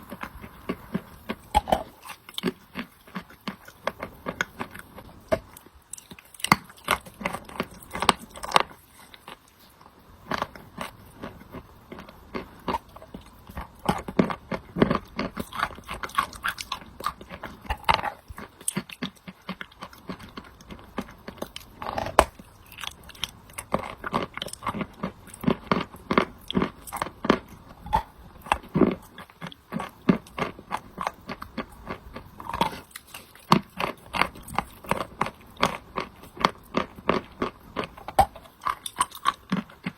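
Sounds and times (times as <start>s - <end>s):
chalk being chewed with crunches: 0.0s - 39.9s.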